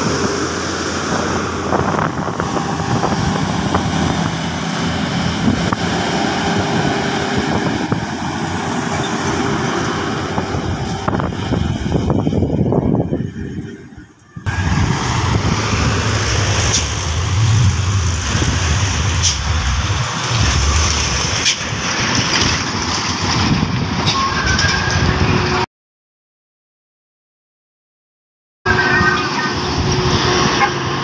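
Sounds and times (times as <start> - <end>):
heavy diesel vehicles passing: 0.0 - 25.6, 28.7 - 31.0.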